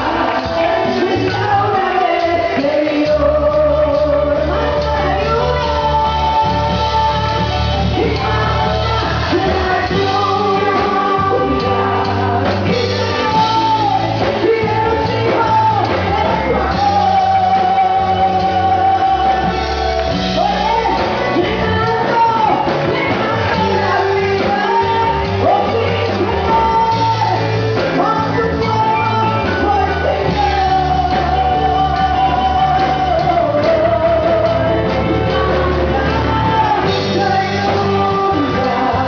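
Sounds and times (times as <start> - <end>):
church band with bass and drums: 0.0 - 39.0
people singing worship song: 0.0 - 39.0.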